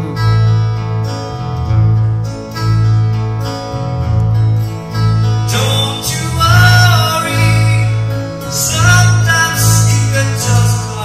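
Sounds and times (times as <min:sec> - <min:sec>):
steady bass: 0:00.0 - 0:11.0
strummed acoustic guitar: 0:00.0 - 0:11.0.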